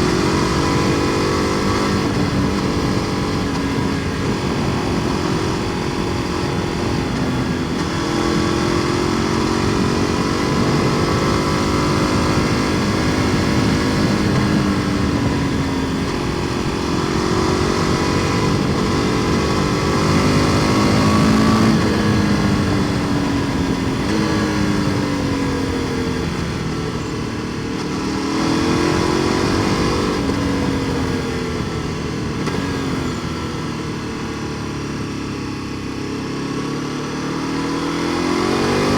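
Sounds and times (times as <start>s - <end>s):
motorcycle engine being ridden: 0.0s - 38.9s.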